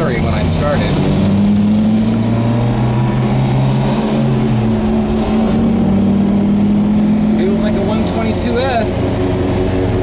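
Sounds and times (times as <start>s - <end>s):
car engine pulling: 0.0s - 10.0s
road noise: 0.0s - 10.0s
steady wheel hum: 0.0s - 10.0s.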